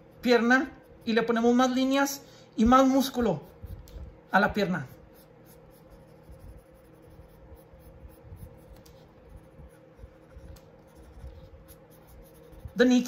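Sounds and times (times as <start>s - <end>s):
pencil scratching on paper: 0.0s - 1.6s, 3.1s - 4.0s, 4.6s - 13.0s.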